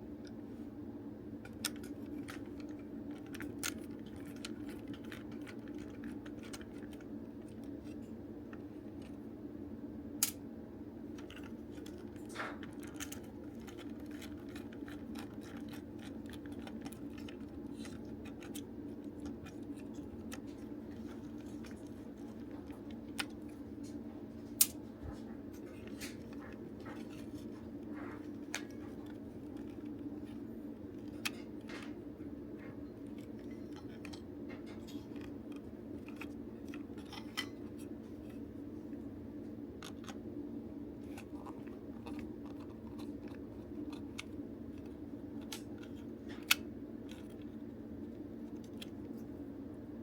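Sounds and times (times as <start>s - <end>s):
plastic parts clicking and scraping: 1.4s - 9.2s, 11.1s - 24.0s, 25.5s - 38.6s, 39.7s - 40.3s, 40.9s - 49.3s.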